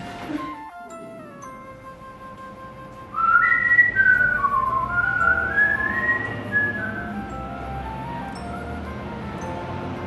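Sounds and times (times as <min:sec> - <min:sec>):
background music: 0:00.0 - 0:10.0
whistled melody: 0:00.0 - 0:10.0.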